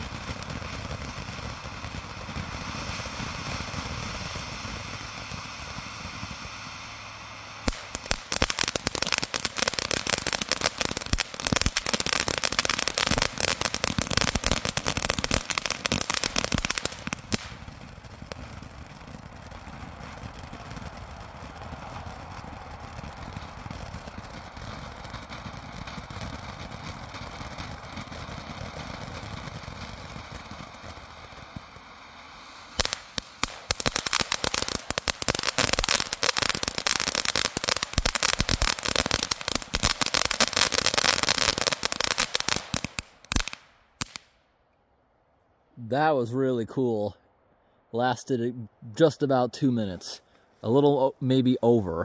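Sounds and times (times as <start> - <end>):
firework fountain hissing: 0.0 - 44.2
rapid firework crackling: 0.0 - 44.4.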